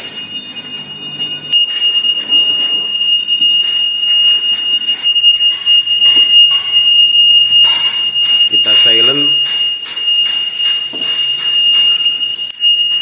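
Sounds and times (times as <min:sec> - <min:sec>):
fire alarm bell ringing: 0:00.0 - 0:13.0.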